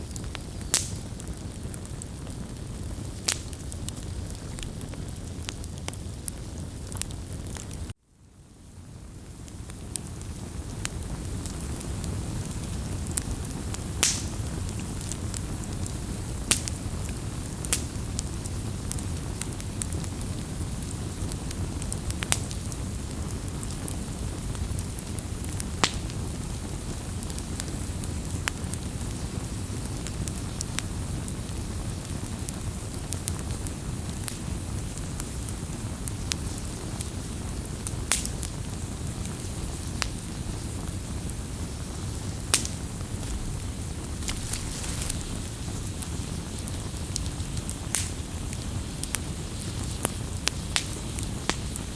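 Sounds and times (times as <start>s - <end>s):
wood crackling and popping: 0.0s - 8.0s, 9.0s - 51.9s
low rush of flames: 0.0s - 51.9s.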